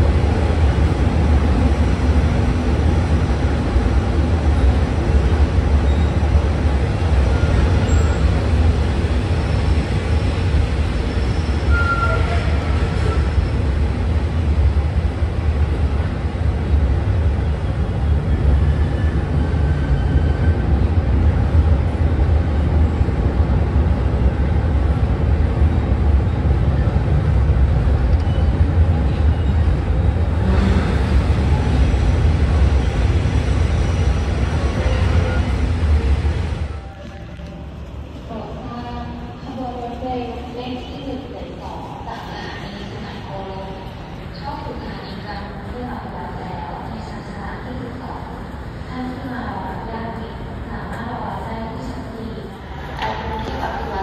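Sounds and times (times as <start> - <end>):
train rumbling and rolling: 0.0 - 54.0.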